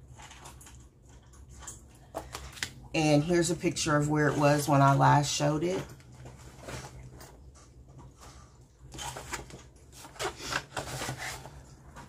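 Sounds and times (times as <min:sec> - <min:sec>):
low steady hum: 0:00.0 - 0:12.0
fabric and card rustling: 0:02.2 - 0:12.0.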